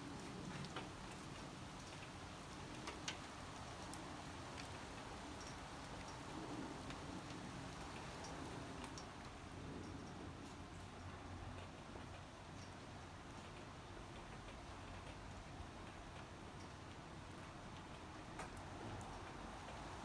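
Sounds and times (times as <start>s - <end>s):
light rain falling: 0.0s - 20.0s.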